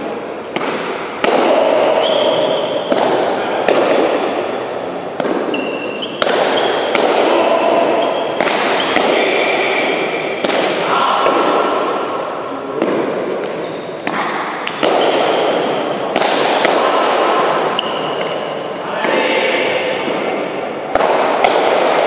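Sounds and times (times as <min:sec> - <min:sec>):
ball hitting wall echoing: 0:00.0 - 0:22.0.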